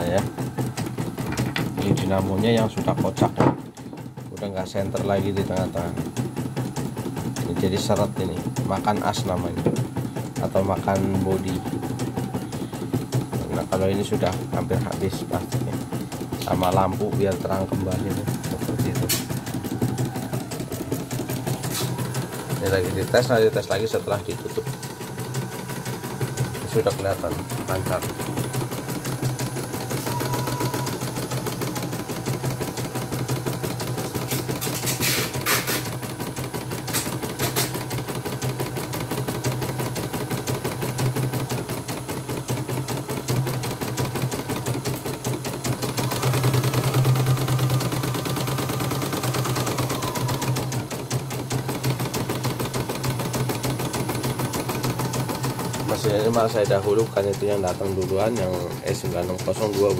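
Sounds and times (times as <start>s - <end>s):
embroidery machine needle ticking: 0.0s - 34.7s, 36.0s - 59.9s
motor hum: 0.0s - 59.9s
sharp machine clicks: 0.0s - 59.9s.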